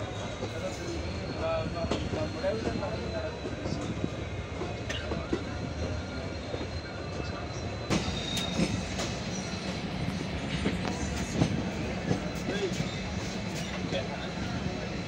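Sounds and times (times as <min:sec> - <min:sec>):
faint high wheel squeal: 0:00.0 - 0:15.0
train rumble: 0:00.0 - 0:15.0.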